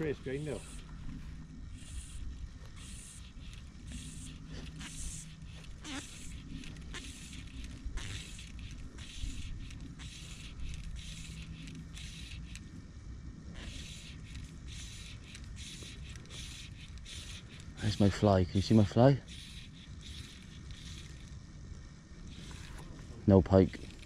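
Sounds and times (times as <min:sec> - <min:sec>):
fishing line scraping rustles: 0:00.0 - 0:12.8, 0:13.5 - 0:24.0
steady low rumble: 0:00.0 - 0:24.0.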